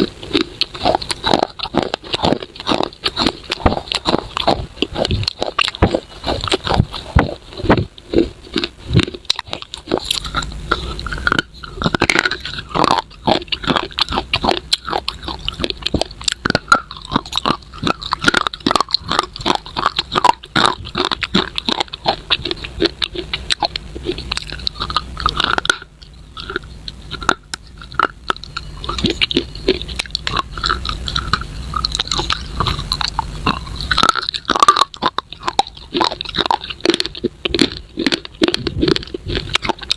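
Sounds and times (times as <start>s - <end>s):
crunching brittle clay: 0.0s - 39.9s.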